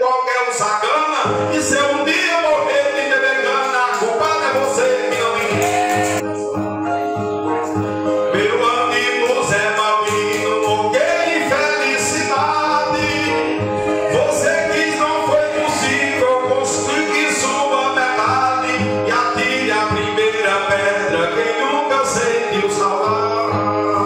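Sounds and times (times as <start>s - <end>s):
man singing: 0.0s - 6.3s, 8.2s - 24.0s.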